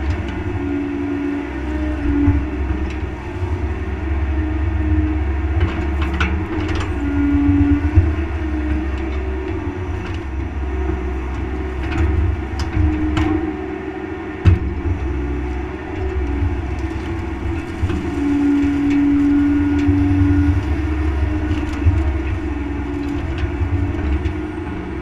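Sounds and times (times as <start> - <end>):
diesel engine running: 0.0 - 25.0
hydraulic whine: 0.0 - 25.0.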